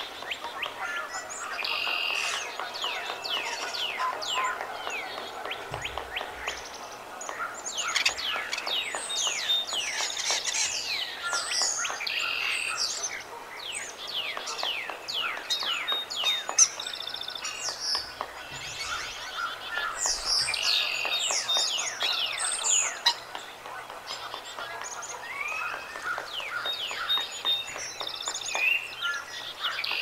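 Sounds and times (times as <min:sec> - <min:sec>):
rapid bird trills: 0:00.0 - 0:30.0
songbirds chorus whistling: 0:00.0 - 0:30.0.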